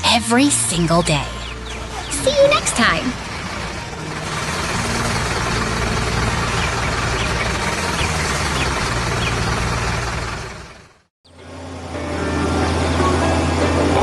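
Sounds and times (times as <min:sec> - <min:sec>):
engine hum: 0:00.0 - 0:14.0
road noise: 0:00.0 - 0:14.0
truck engine running: 0:00.0 - 0:14.0.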